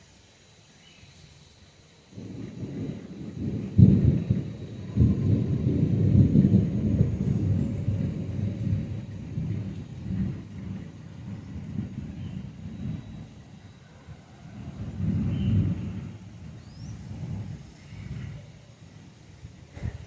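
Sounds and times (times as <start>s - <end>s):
thunder rumbling and cracking: 2.1s - 20.0s.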